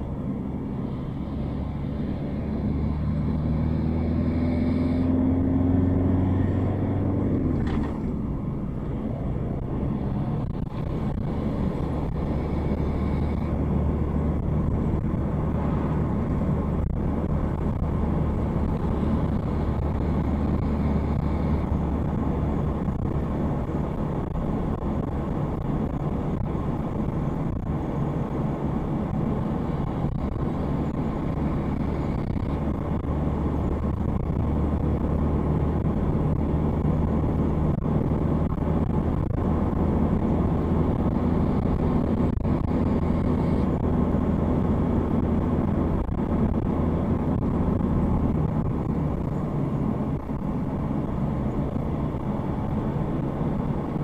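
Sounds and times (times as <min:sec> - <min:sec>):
car engine from inside cabin: 0:00.0 - 0:54.0
road rumble: 0:00.0 - 0:54.0.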